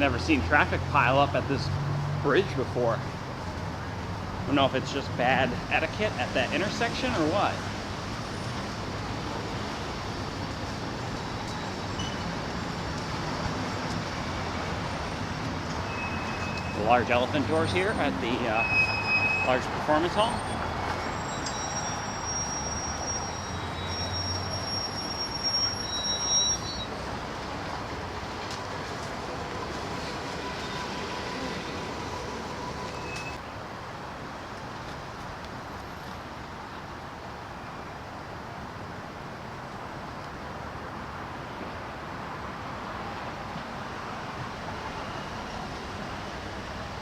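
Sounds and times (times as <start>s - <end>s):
city traffic rumble: 0.0s - 47.0s.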